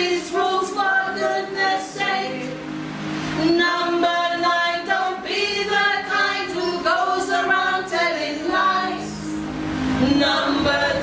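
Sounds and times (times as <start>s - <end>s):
group singing a worship song: 0.0s - 11.0s.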